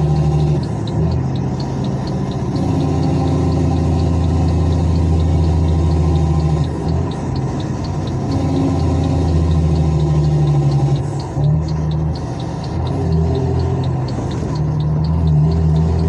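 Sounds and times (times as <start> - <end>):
diesel engine droning: 0.0 - 16.0
fast light ticking: 0.0 - 16.0.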